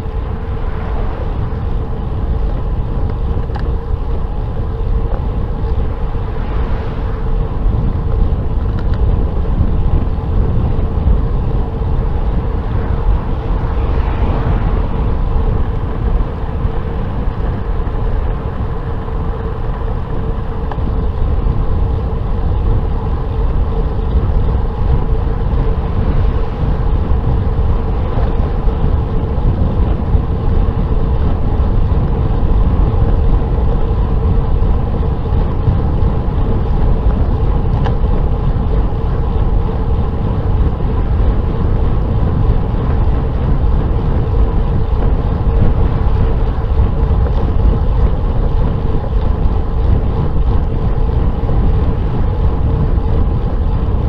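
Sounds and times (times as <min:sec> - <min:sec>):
faint steady whine: 0:00.0 - 0:54.0
road noise: 0:00.0 - 0:54.0
wind buffeting microphone: 0:00.0 - 0:54.0.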